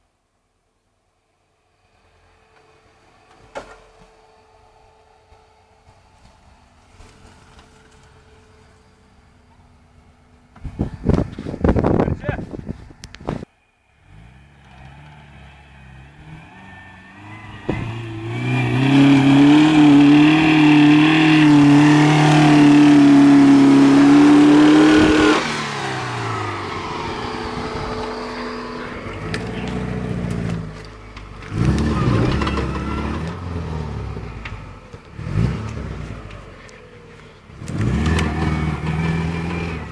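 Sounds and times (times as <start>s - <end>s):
car engine revving: 2.1s - 39.9s.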